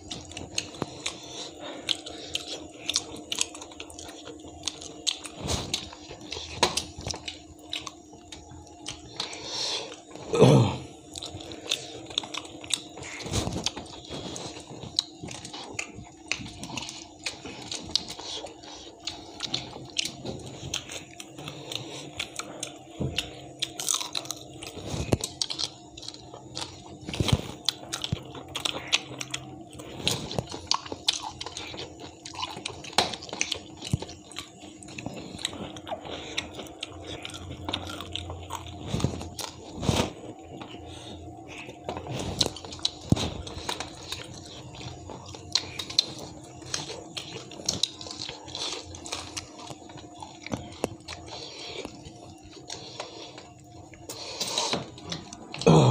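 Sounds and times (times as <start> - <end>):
people chewing crunchy fish: 0.0 - 55.9
steady low hum: 0.0 - 55.9.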